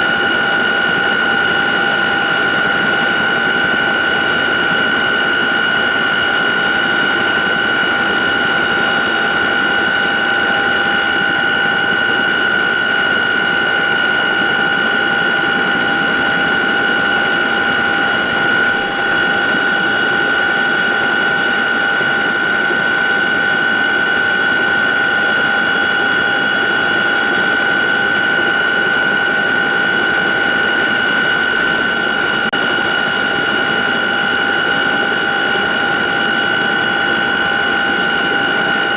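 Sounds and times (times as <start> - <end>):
helicopter cabin whine and rush: 0.0 - 38.9.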